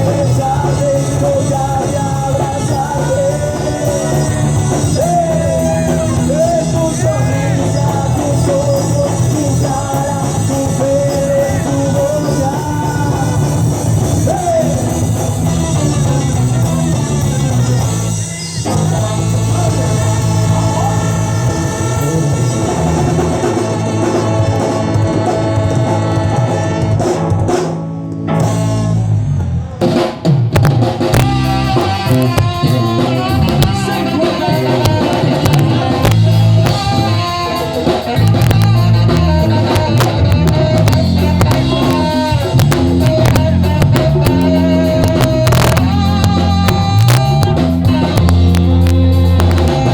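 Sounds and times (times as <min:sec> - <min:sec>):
bass line: 0:00.0 - 0:49.9
drum kit: 0:00.0 - 0:49.9
ska band playing live: 0:00.0 - 0:49.9.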